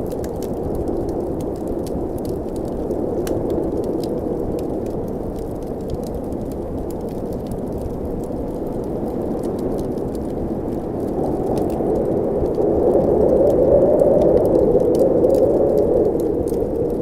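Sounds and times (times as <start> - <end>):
blizzard wind blowing: 0.0 - 17.0
wood fire crackling: 0.0 - 17.0.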